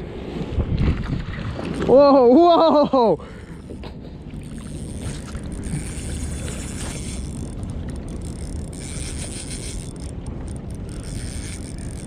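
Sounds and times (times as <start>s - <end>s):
water around a kayak: 0.0s - 12.0s
wind: 0.0s - 12.0s.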